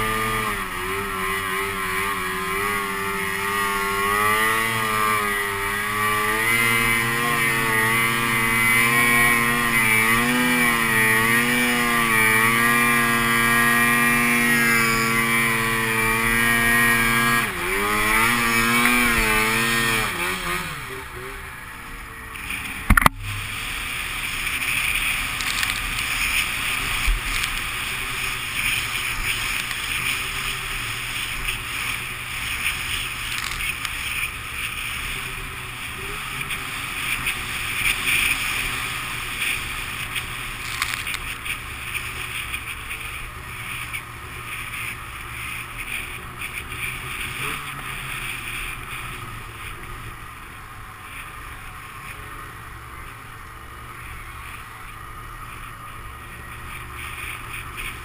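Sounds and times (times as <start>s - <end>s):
hiss of snow and wind: 0.0s - 58.0s
snowmobile engine running: 0.0s - 58.0s.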